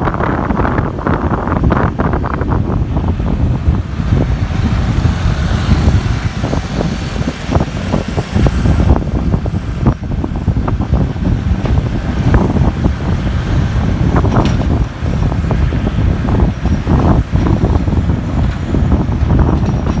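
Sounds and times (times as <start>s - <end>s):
motorcycle road noise: 0.0s - 20.0s
wind buffeting microphone: 0.0s - 20.0s.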